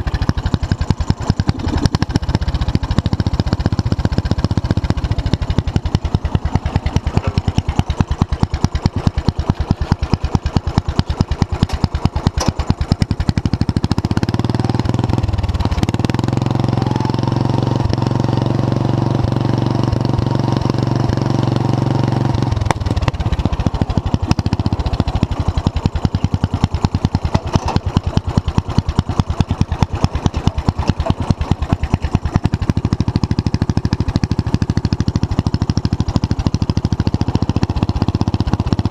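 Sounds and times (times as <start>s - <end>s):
small engine idling and revving: 0.0s - 38.9s.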